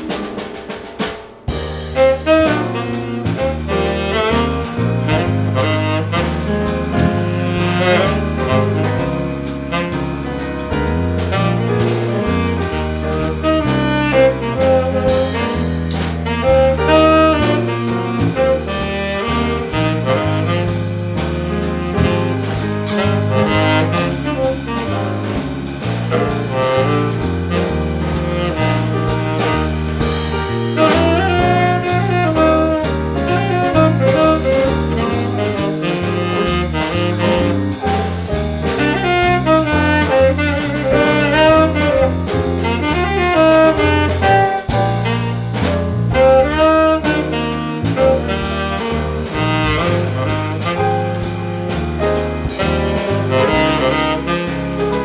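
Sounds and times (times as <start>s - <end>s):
drums with cymbal beat: 0.0s - 55.0s
saxophone solo: 1.5s - 55.0s
walking double bass: 1.5s - 55.0s.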